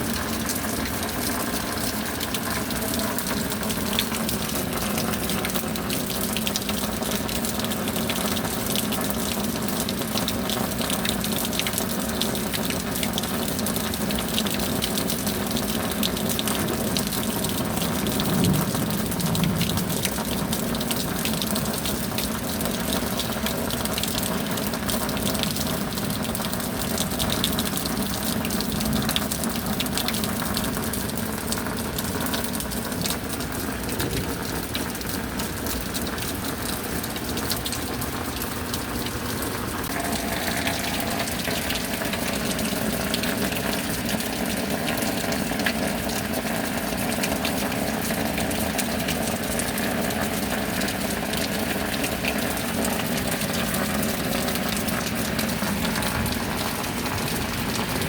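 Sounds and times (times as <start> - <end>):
rain drops pattering: 0.0 - 58.0
rushing water: 0.0 - 58.0.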